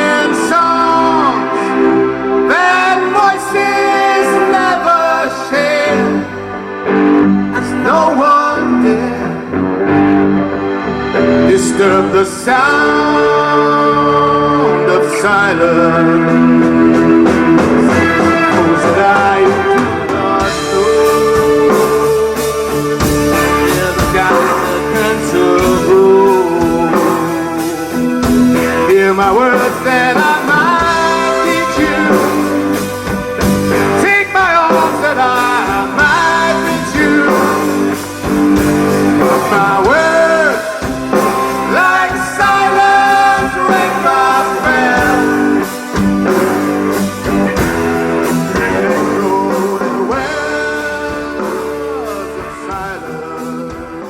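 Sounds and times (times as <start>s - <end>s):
rock music with guitar: 0.0s - 54.0s.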